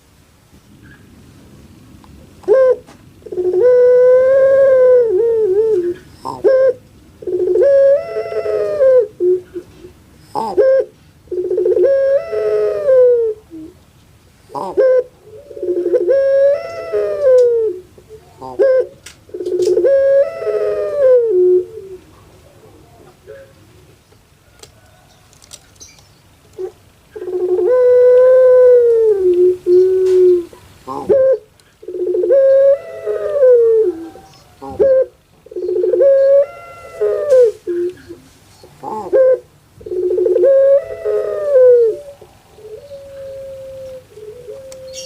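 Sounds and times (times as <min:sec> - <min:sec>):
dove cooing: 0:02.3 - 0:13.8, 0:14.5 - 0:25.6, 0:26.5 - 0:45.0.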